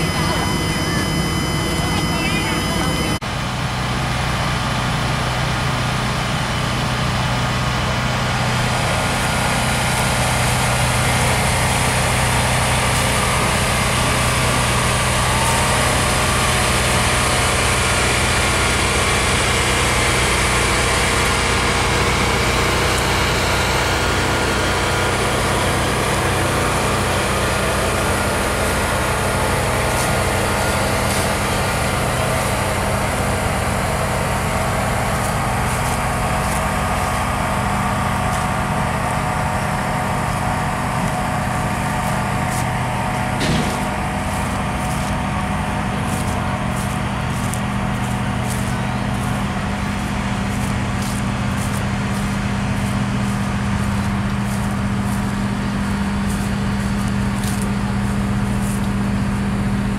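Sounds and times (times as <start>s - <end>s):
diesel engine hum: 0.0s - 59.9s
train wheels rumbling on rails: 0.0s - 59.9s.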